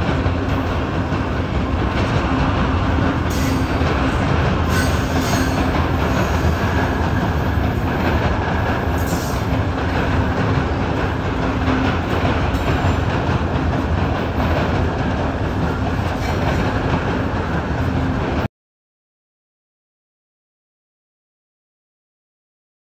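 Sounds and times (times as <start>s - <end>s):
steel wheels rumbling on rail: 0.0s - 18.5s.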